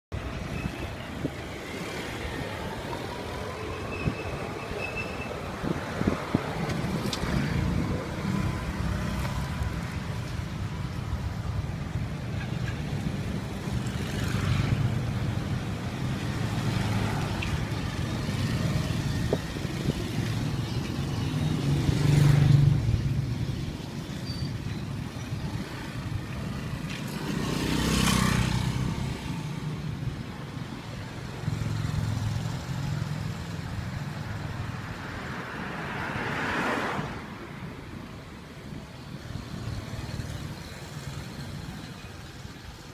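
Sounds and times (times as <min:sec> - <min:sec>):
street traffic rumble: 0:00.1 - 0:42.9
vehicles passing: 0:00.1 - 0:42.9.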